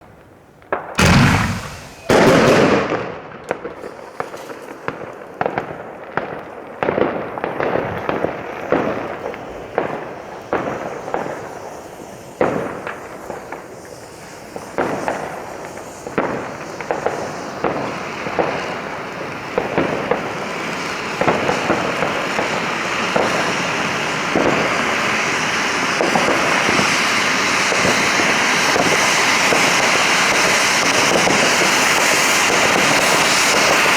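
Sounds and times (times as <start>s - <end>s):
continuous fireworks hiss: 0.6s - 33.9s
fireworks bangs and bursts: 0.8s - 11.8s, 14.6s - 33.9s.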